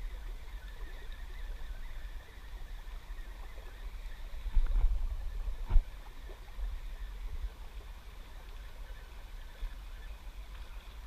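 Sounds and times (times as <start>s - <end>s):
low fluctuating rumble: 0.0s - 11.0s.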